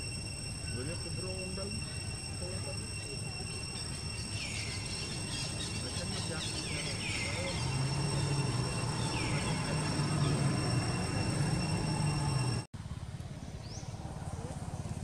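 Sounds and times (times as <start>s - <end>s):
high-pitched insect drone: 0.0s - 12.7s
steady low hum: 0.0s - 12.7s.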